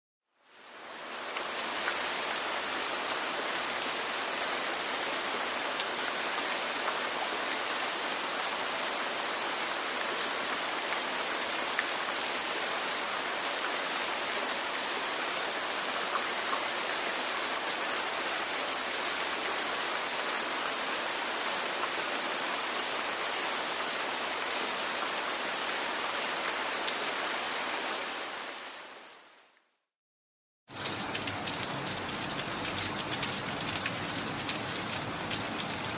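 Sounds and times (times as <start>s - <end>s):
steady rain falling: 0.3s - 29.9s, 30.7s - 35.9s.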